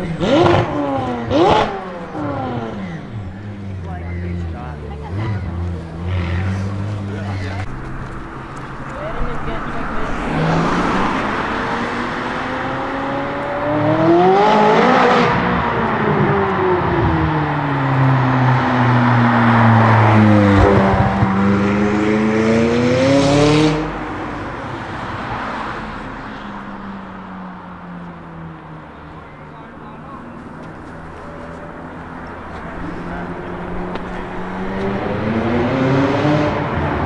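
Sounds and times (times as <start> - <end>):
sports car engine accelerating: 0.0 - 37.0.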